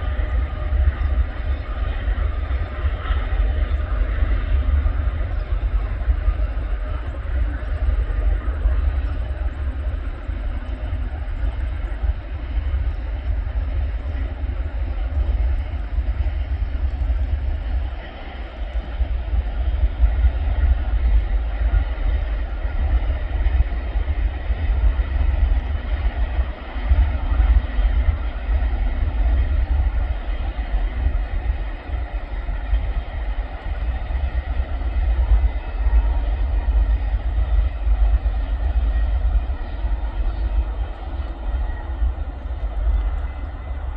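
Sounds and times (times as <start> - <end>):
freight train rumbling past: 0.0 - 43.9.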